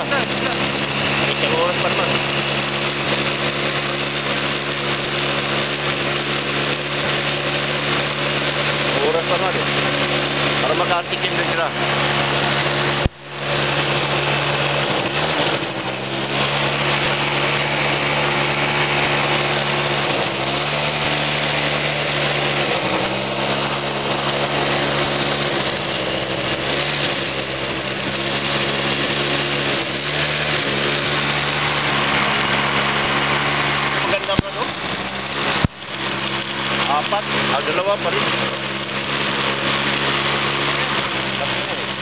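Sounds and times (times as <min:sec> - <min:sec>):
quad engine running: 0:00.0 - 0:42.0.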